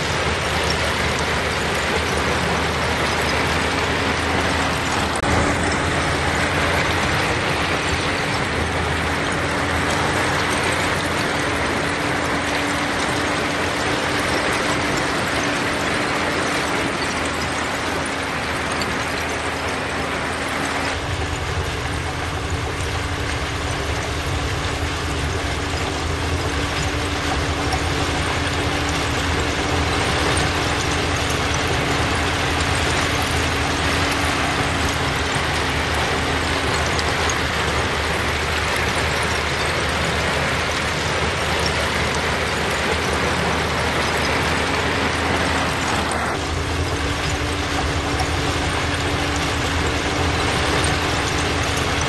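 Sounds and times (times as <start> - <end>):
bulldozer diesel engine: 0.0 - 52.0
dense mechanical rattle: 0.0 - 52.0.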